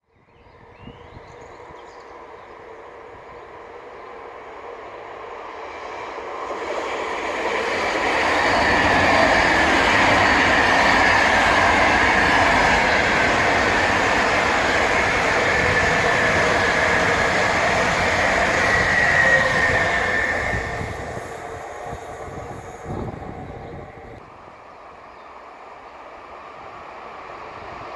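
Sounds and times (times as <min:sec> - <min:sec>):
train wheels rushing on rails: 0:01.4 - 0:27.9.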